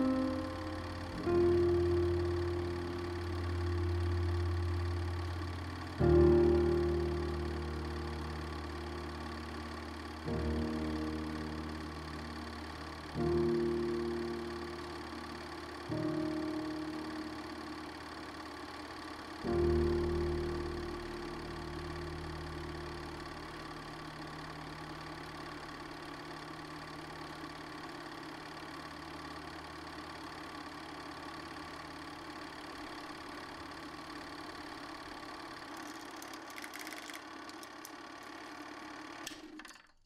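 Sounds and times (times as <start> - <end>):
film projector whirring: 0.0 - 39.8.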